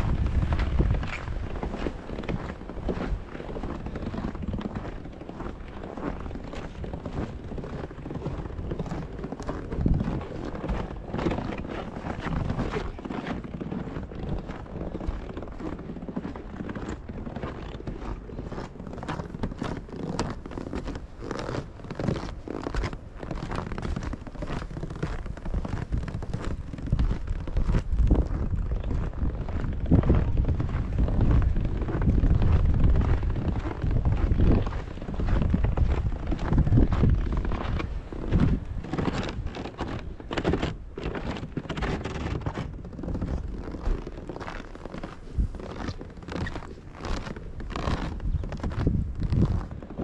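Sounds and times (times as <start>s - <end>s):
footsteps crunching on snow: 0.0s - 50.0s
wind buffeting microphone: 0.0s - 50.0s.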